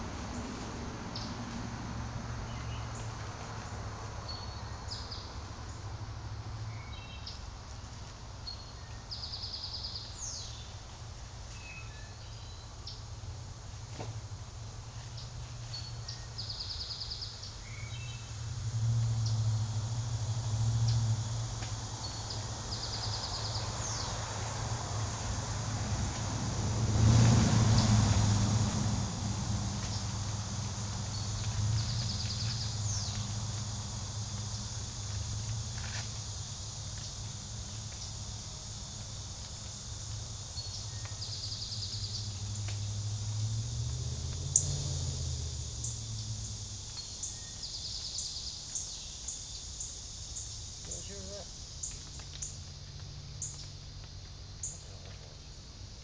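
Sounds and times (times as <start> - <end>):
high-pitched insect chorus: 0.0 - 56.0
small birds trilling and chirping: 2.3 - 5.9, 6.6 - 13.2, 14.6 - 26.2, 27.6 - 55.7.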